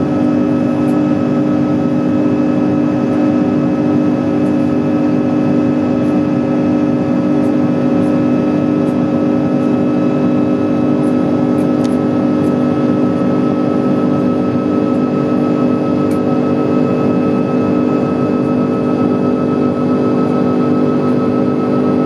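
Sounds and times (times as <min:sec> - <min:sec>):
engine and airflow drone: 0:00.0 - 0:22.0
fixed humming tones: 0:00.0 - 0:22.0.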